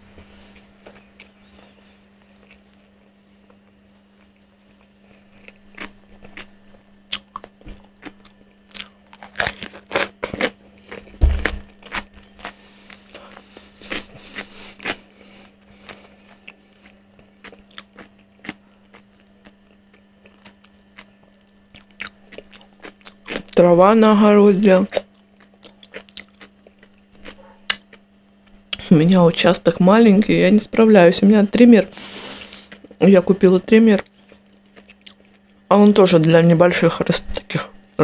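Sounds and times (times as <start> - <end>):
faint steady hum: 0.0 - 38.0
chewing crispy food: 0.2 - 29.3, 31.9 - 36.4.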